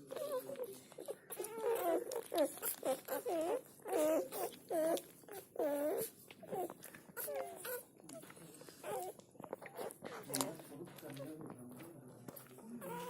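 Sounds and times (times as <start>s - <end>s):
puppies whining and yelping: 0.0s - 13.0s.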